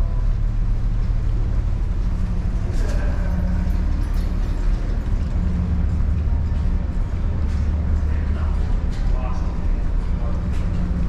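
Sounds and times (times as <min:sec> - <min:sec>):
ship engines droning: 0:00.0 - 0:11.0.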